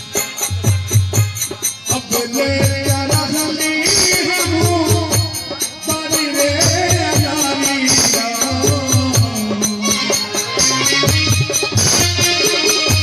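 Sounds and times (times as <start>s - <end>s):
instrumental accompaniment: 0.0s - 13.0s
steady drum beat: 0.0s - 13.0s
man singing: 1.8s - 13.0s.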